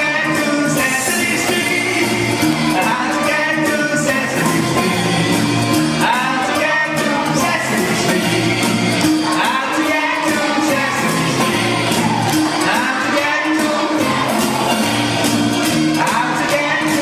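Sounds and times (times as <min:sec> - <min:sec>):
drums keeping a beat: 0:00.0 - 0:17.0.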